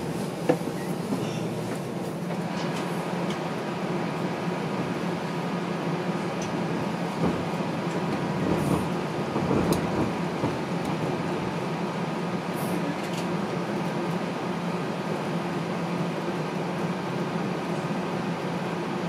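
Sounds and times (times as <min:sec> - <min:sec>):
streetcar rumble: 0:00.0 - 0:19.0.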